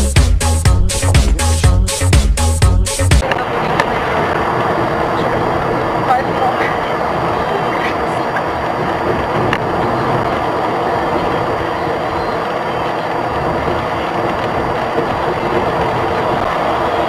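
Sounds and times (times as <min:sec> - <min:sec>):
vehicle driving rumble: 0:00.0 - 0:17.0.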